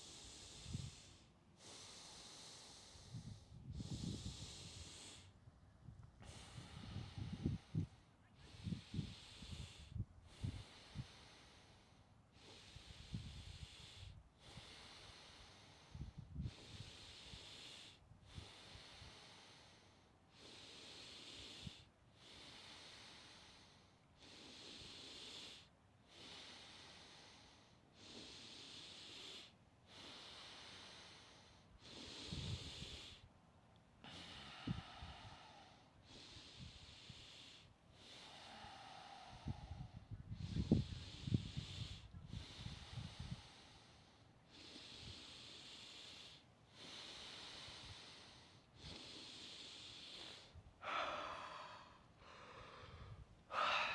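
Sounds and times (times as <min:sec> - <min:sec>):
person breathing rapidly: 0:00.0 - 0:05.4, 0:06.2 - 0:33.3, 0:34.0 - 0:53.9.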